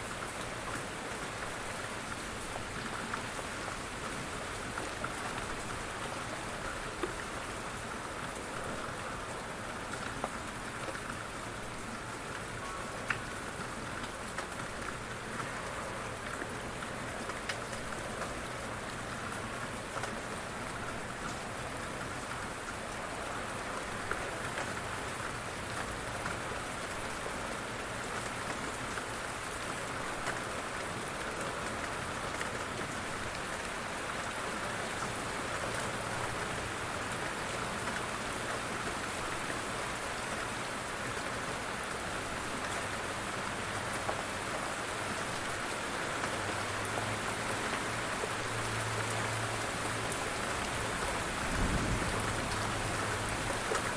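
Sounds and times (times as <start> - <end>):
rain pattering on a surface: 0.0 - 53.9.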